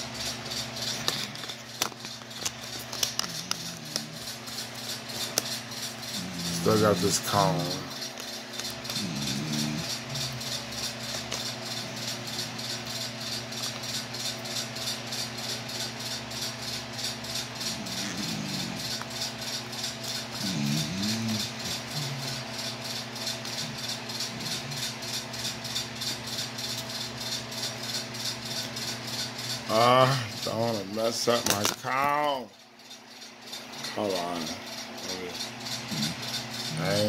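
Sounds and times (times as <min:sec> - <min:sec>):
low electrical hum: 0:00.0 - 0:37.0
rapid ticking rattle: 0:00.1 - 0:37.0.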